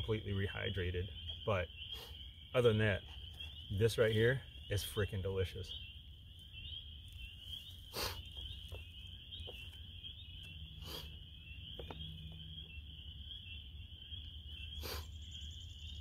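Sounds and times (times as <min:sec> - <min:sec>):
frogs trilling: 0:00.0 - 0:16.0.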